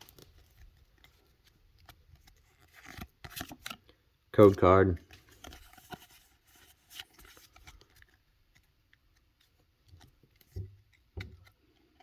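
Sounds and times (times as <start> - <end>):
trading cards rustling and clicking: 0.0 - 12.0.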